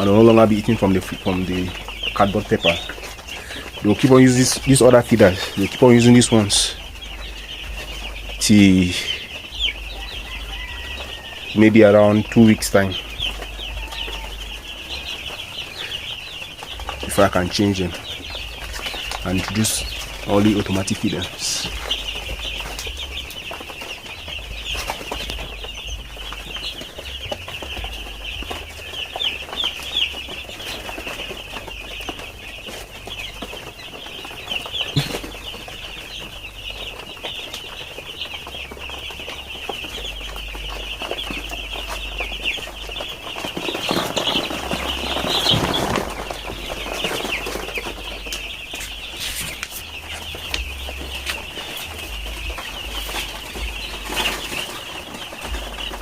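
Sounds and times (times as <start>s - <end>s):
chicks peeping: 0.0s - 56.0s
rustling: 0.0s - 56.0s.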